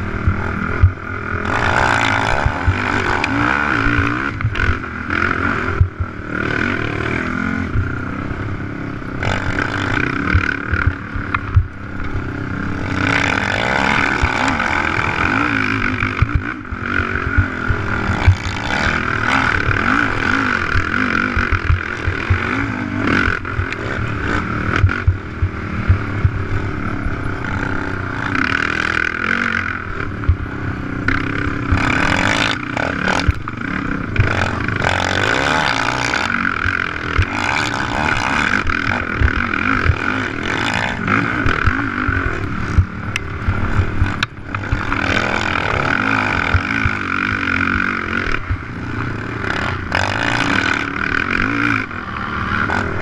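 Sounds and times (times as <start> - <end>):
quad engine revving hard: 0.0 - 53.0.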